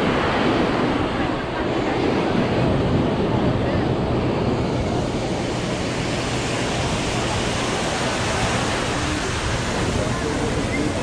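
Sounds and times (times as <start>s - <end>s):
ocean surf on beach: 0.0s - 11.0s
wind on microphone: 0.0s - 11.0s.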